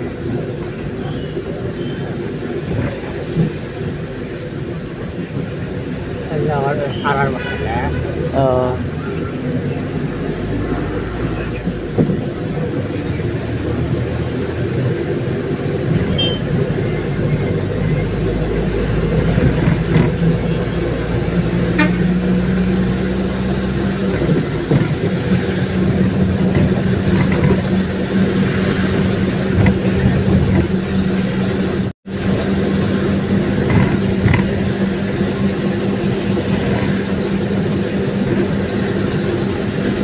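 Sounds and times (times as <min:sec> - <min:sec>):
bus engine drone: 0:00.0 - 0:40.0
road and traffic noise: 0:00.0 - 0:40.0.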